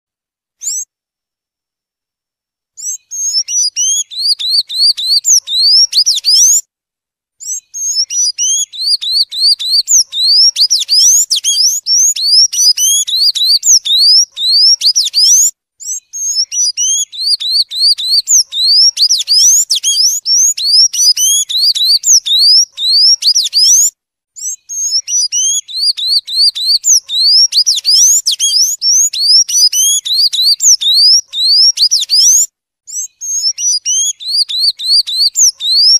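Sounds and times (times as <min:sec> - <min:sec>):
bird singing rapid high notes: 0:02.8 - 0:06.6, 0:07.4 - 0:35.9.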